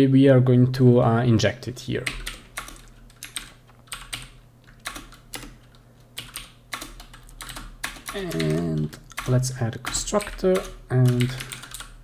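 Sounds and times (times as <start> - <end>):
computer keyboard typing: 2.0 - 12.0.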